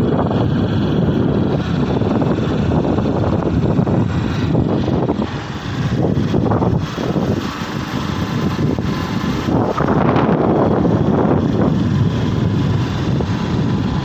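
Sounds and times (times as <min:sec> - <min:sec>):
motorcycle rumbling: 0:00.0 - 0:14.0
wind buffeting microphone: 0:00.0 - 0:14.0.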